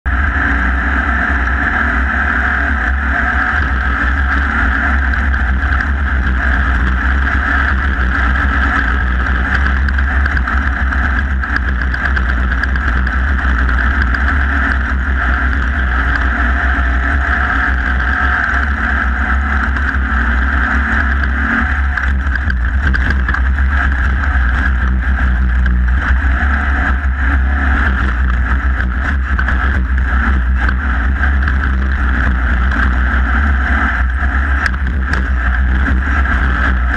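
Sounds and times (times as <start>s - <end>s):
race vehicle engine running: 0.0s - 36.9s.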